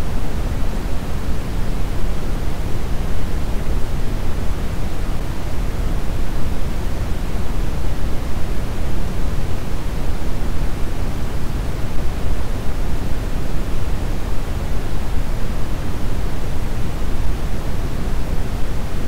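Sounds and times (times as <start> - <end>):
brown noise hiss: 0.0 - 19.0.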